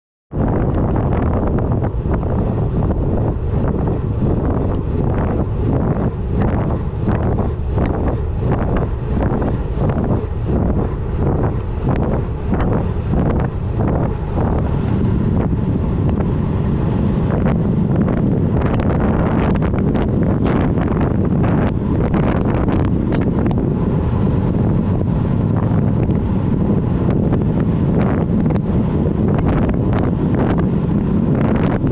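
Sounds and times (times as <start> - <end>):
wind buffeting microphone: 0.3 - 31.9.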